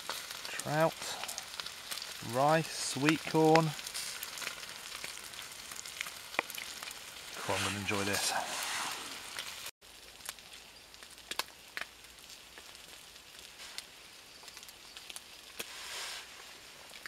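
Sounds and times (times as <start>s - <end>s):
campfire crackling: 0.0s - 17.0s
fire hissing: 0.0s - 17.0s
fire popping: 0.0s - 17.0s.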